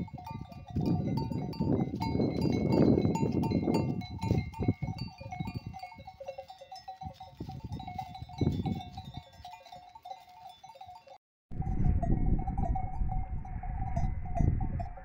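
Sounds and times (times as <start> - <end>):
wind rumbling on microphone: 0.0 - 6.2, 6.9 - 9.5, 11.5 - 15.0
sheep bells jingling: 0.0 - 11.2, 12.0 - 15.0.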